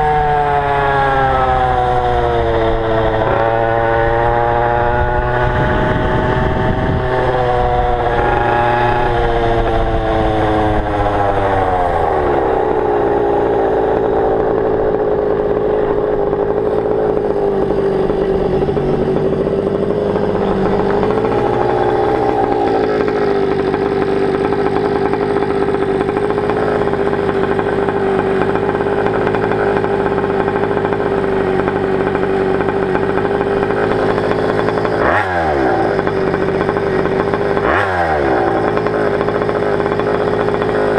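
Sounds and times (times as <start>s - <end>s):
scooter engine idling: 0.0s - 40.9s.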